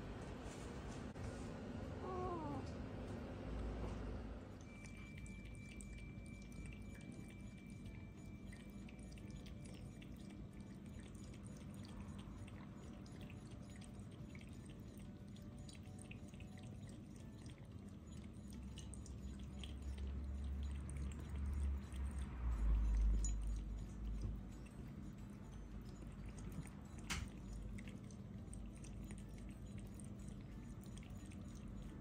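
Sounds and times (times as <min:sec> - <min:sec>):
faint steady hum: 0:00.0 - 0:32.0
cat lapping water: 0:04.6 - 0:32.0.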